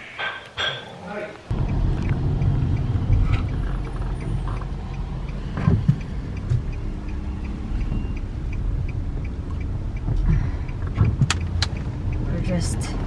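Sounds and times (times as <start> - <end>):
car road and engine rumble: 1.4 - 13.0
turn signal ticking: 1.5 - 13.0.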